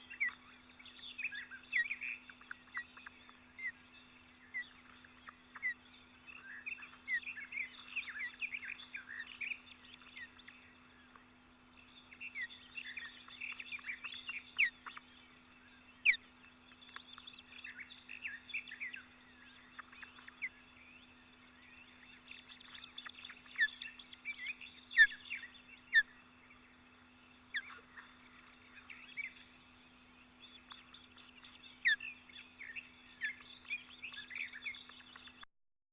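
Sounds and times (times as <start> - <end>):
songbirds chirping: 0.0 - 35.5
steady low hum: 0.0 - 35.5.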